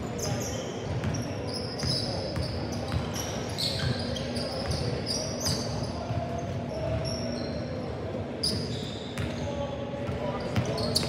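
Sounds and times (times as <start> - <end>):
sneaker squeaks: 0.0 - 11.0.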